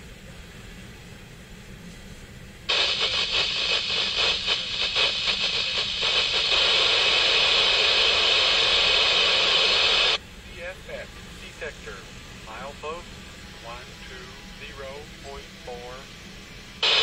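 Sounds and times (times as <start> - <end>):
radio static hiss: 2.7 - 17.0.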